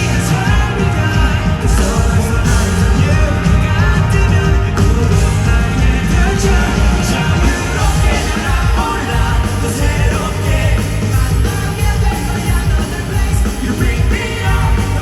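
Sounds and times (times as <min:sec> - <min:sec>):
person singing lead vocal: 0:00.0 - 0:15.0
rock band playing live: 0:00.0 - 0:15.0.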